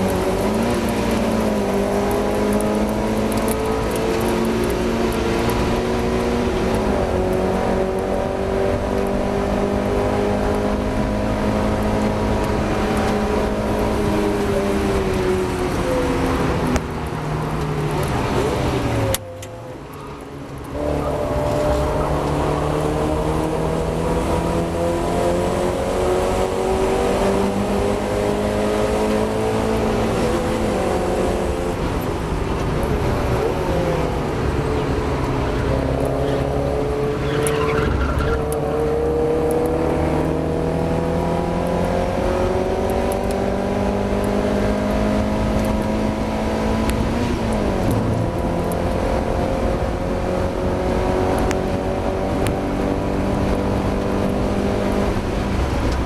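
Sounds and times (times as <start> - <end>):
race car engine accelerating: 0.0 - 19.8, 20.5 - 56.0.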